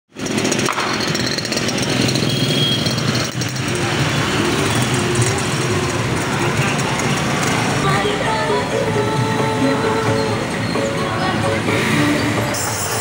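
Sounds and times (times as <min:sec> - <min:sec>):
motorcycle engines running: 0:00.1 - 0:13.0
street traffic: 0:00.1 - 0:13.0.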